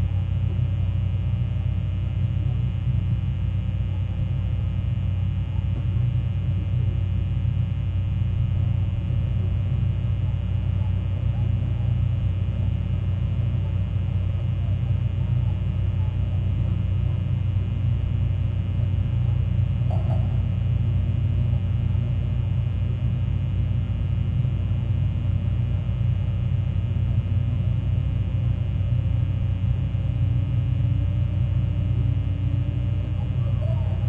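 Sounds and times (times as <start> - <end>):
low rumble with hum: 0.0 - 34.0.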